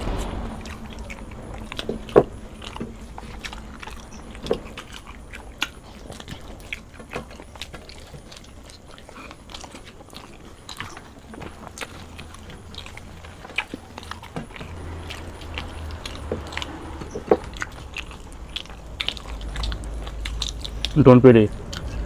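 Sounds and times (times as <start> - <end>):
chewing and biting food: 0.0 - 22.0
faint low hum: 0.0 - 22.0.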